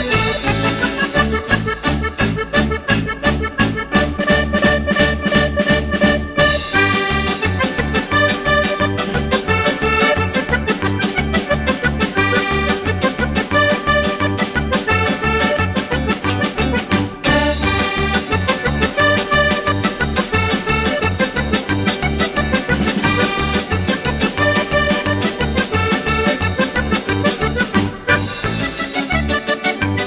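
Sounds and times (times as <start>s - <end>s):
upbeat accordion music: 0.0s - 30.0s.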